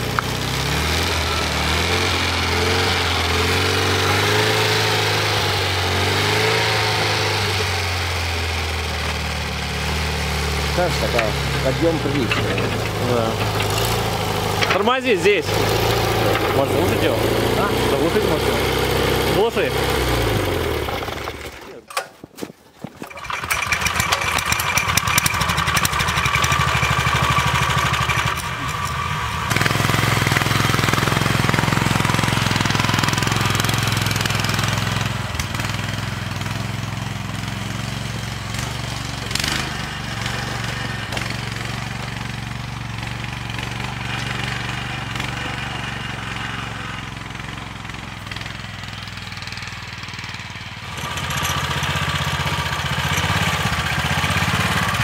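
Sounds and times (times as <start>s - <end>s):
small tractor engine under load: 0.0s - 55.0s.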